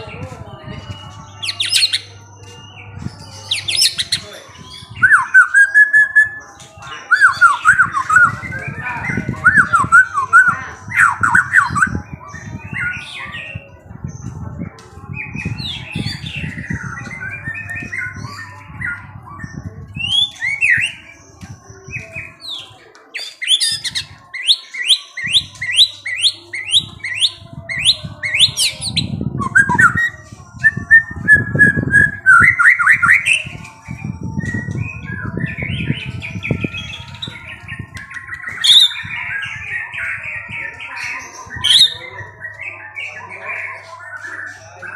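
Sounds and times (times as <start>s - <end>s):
songbirds chirping and singing: 0.0s - 44.9s.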